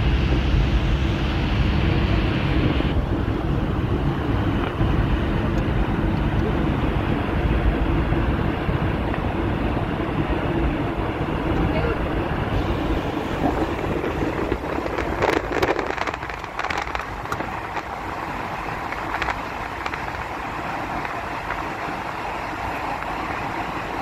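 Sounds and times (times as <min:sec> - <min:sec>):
car road and wind noise: 0:00.0 - 0:24.0.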